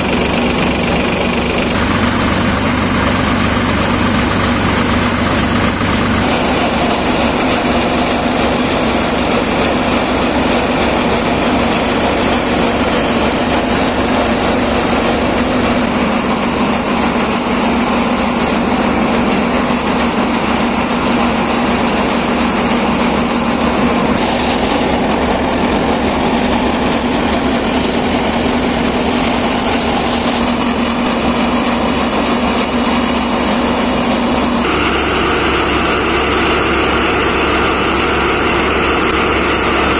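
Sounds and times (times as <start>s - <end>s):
thresher running: 0.0s - 39.9s
tractor engine humming: 0.0s - 39.9s.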